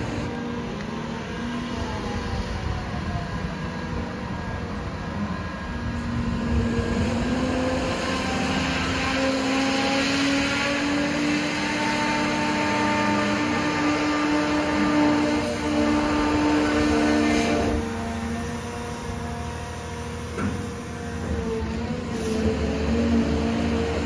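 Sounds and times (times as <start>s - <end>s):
diesel engine and hydraulics running: 0.0s - 24.0s.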